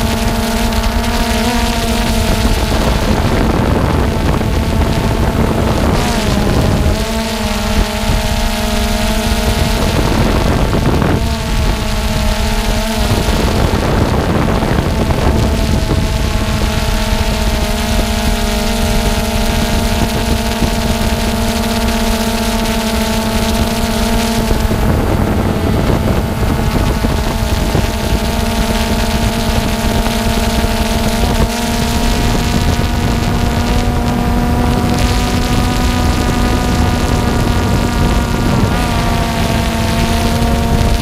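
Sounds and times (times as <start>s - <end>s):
drone propellers buzzing: 0.0s - 41.0s
wind on microphone: 0.0s - 41.0s.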